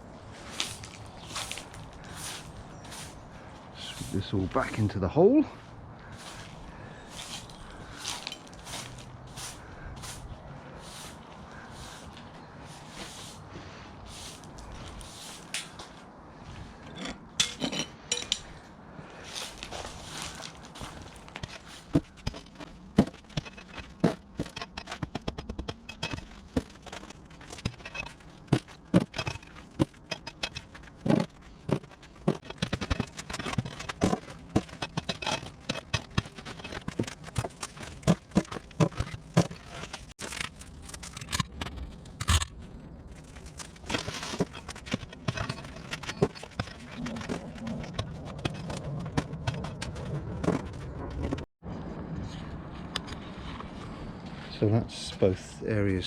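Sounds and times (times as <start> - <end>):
hand tool scraping rubble: 0.4 - 5.0, 6.1 - 13.4, 16.6 - 42.5, 43.1 - 51.4.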